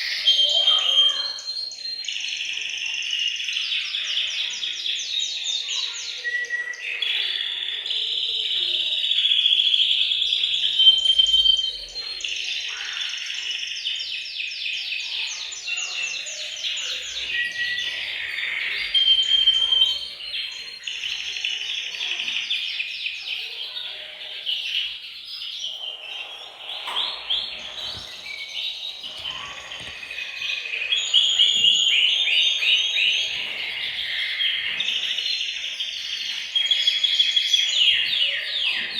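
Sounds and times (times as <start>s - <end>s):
canaries singing trills: 0.0s - 38.9s.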